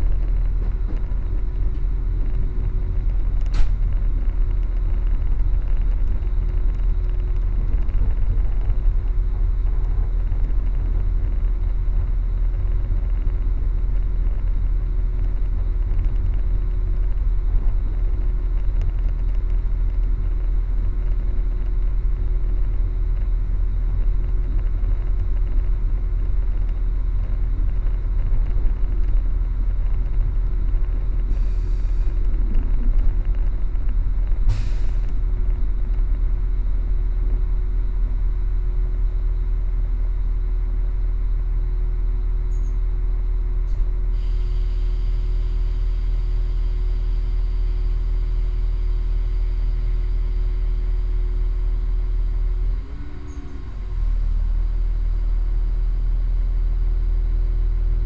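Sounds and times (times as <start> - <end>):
constant hum: 0.0 - 58.0
train rumbling from inside carriage: 0.0 - 58.0.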